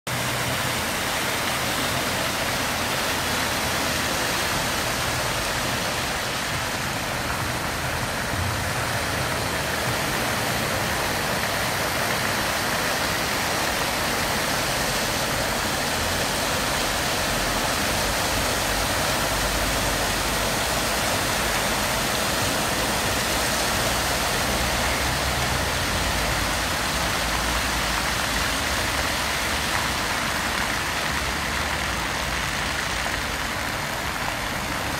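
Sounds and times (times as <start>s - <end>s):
fountain water splashing: 0.1s - 34.9s.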